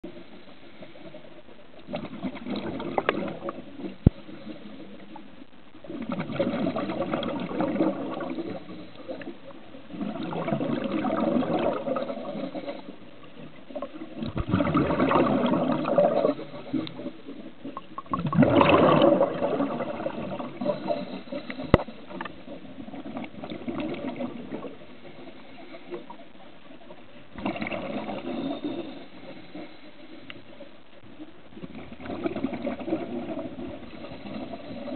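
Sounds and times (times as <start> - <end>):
diver's exhaled bubbles underwater: 0.0 - 29.8, 31.2 - 34.9.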